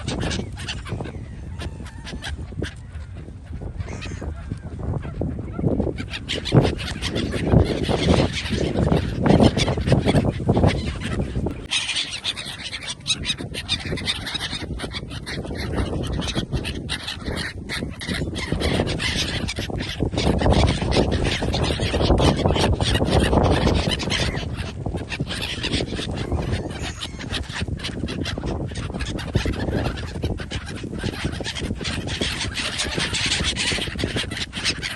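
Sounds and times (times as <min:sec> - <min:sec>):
geese honking: 0:00.0 - 0:34.9.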